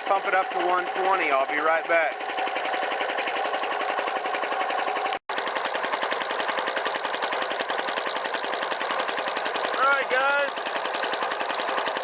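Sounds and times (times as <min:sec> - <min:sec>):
air compressor pump knocking: 0:00.0 - 0:05.2, 0:06.0 - 0:12.0.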